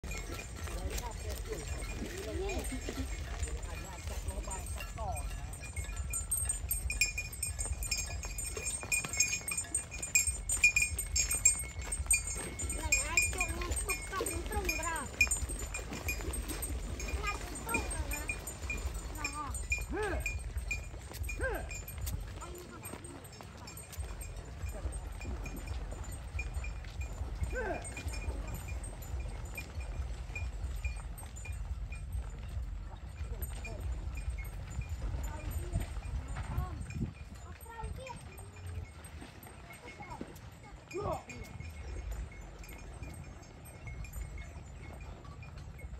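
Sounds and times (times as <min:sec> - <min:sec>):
animal neck bells clinking: 0:00.0 - 0:45.9.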